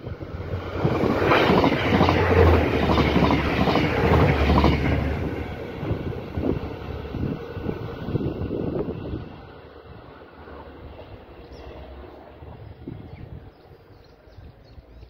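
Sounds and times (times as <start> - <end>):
wheel on rail noise: 0.0 - 14.4
railcar engine hum: 0.0 - 15.0.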